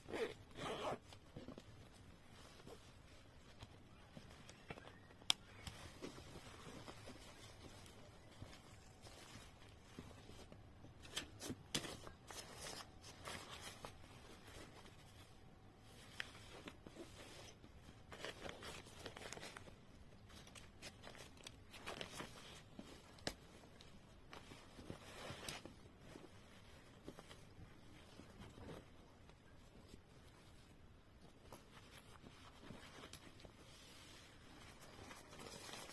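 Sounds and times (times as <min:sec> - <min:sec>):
cloth rustling and brushing: 0:00.1 - 0:19.7, 0:20.3 - 0:35.9.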